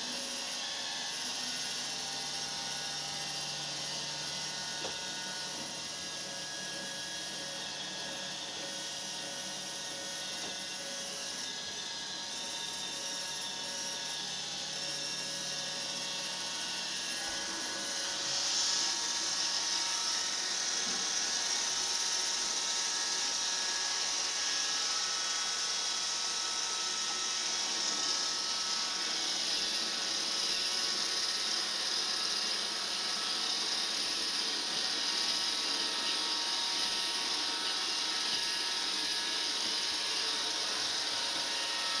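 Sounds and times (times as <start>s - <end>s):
robot vacuum whirring: 0.0s - 42.0s.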